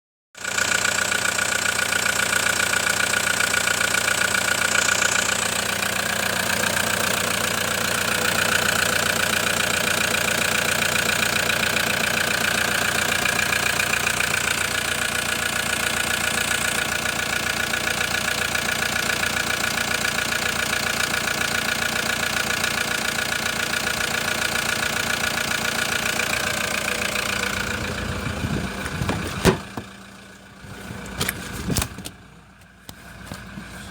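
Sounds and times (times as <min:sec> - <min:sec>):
engine running steadily: 0:00.4 - 0:33.9.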